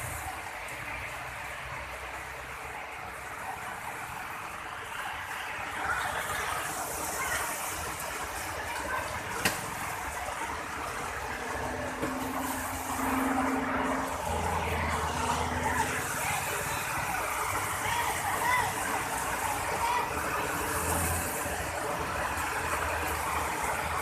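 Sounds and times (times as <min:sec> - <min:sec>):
heavy rain with wind: 0:00.0 - 0:24.0.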